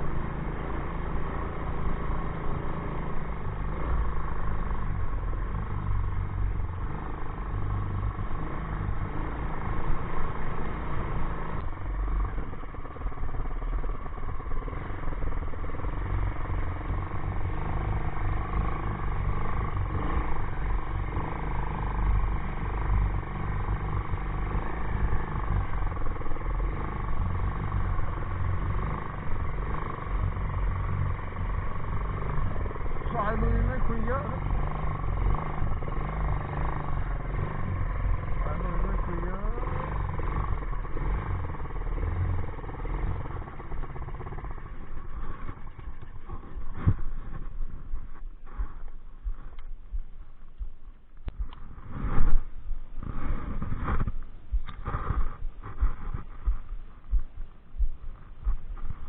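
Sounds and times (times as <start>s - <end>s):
quad engine rumbling: 0.0s - 59.0s.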